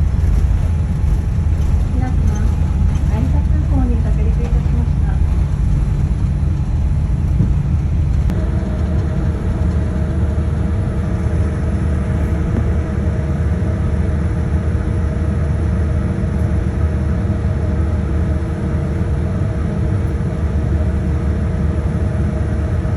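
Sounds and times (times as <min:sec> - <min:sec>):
airliner rumble: 0:00.0 - 0:22.9.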